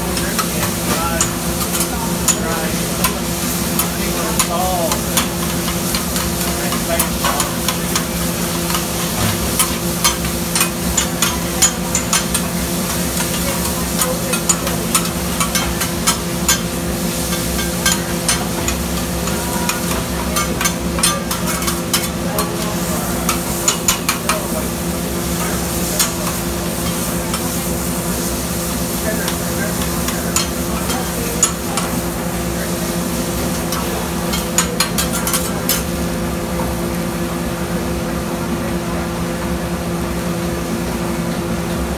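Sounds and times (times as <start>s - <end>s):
meat and onions sizzling on griddle: 0.0s - 36.1s.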